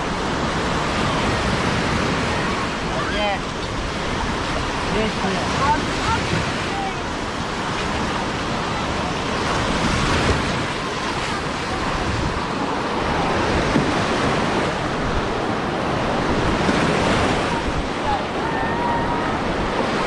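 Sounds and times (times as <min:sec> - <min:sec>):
waves washing onto beach: 0:00.0 - 0:20.0.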